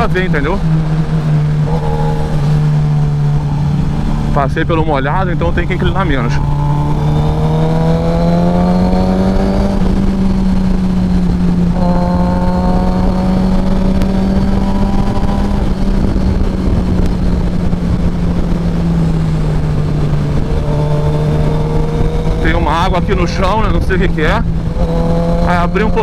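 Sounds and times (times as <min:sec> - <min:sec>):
motorcycle engine running: 0:00.0 - 0:26.0
wind rush: 0:00.0 - 0:26.0.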